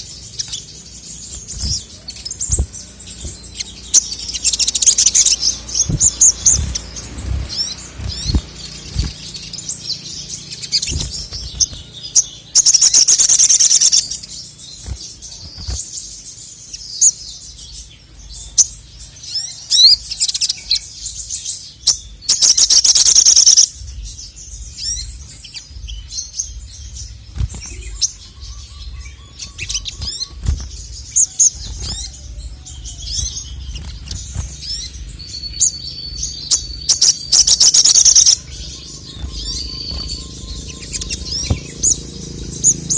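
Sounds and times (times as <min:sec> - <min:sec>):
sunbird chirping and trilling: 0:00.0 - 0:42.9.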